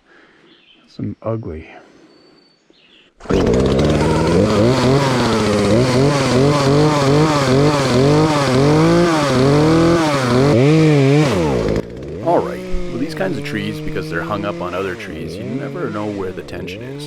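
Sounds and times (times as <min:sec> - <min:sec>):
chainsaw cutting at high revs: 0:03.2 - 0:17.0.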